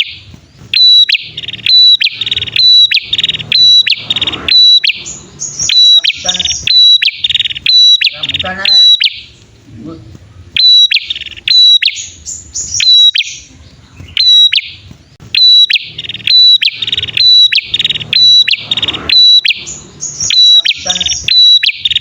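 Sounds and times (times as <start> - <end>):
songbirds calling: 0.0 - 22.0.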